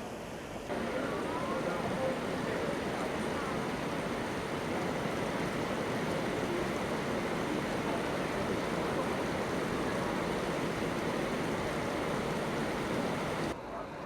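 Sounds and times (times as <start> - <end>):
artificial rain pouring: 0.7 - 13.6
faint voices: 0.7 - 14.0.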